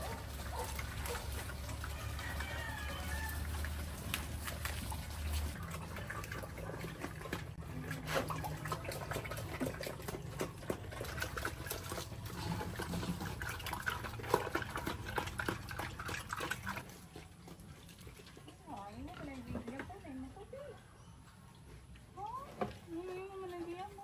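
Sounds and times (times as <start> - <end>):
pigs chewing and slurping: 0.0 - 24.0.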